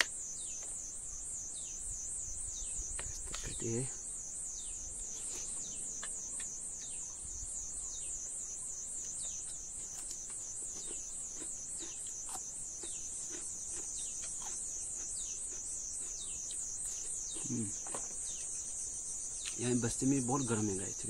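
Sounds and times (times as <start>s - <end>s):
insects buzzing high-pitched: 0.0s - 21.0s.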